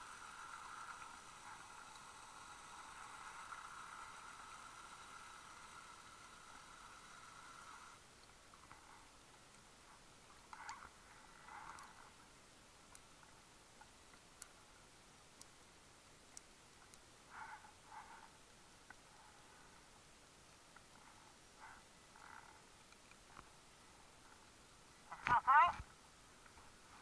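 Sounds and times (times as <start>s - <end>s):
faint underwater hiss: 0.0s - 27.0s.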